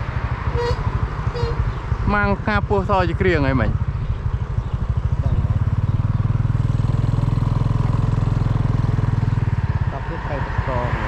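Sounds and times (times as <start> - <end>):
small engine throbbing: 0.0 - 11.0.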